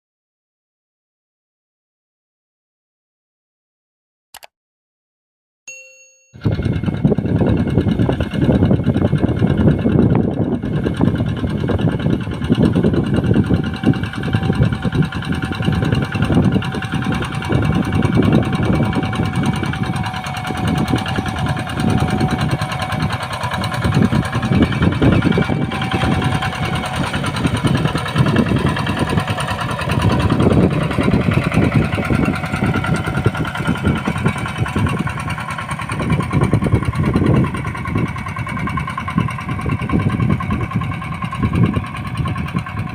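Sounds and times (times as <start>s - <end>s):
diesel engine droning: 6.4s - 42.9s.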